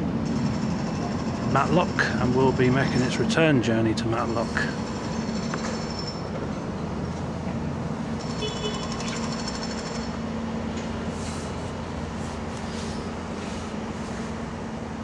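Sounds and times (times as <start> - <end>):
train engine idling: 0.0 - 15.0.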